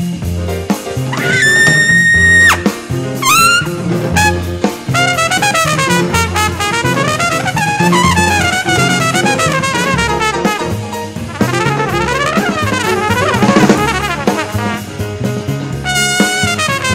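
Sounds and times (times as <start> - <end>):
brass and drum instrumental music: 0.0 - 16.9.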